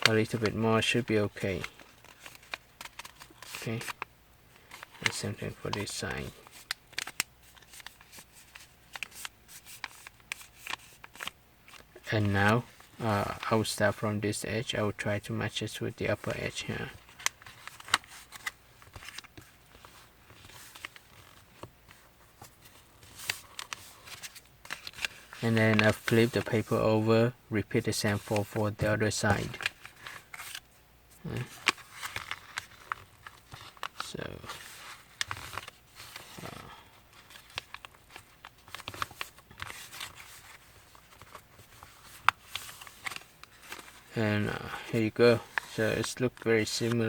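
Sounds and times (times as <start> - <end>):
paper rustling and crackling: 0.0 - 4.0, 4.6 - 13.9, 16.1 - 26.8, 27.8 - 30.6, 31.3 - 47.0.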